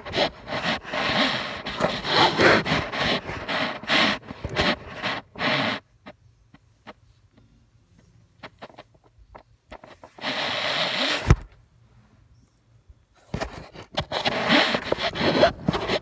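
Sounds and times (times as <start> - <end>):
phone microphone handling noise: 0.0 - 11.6, 13.2 - 16.0.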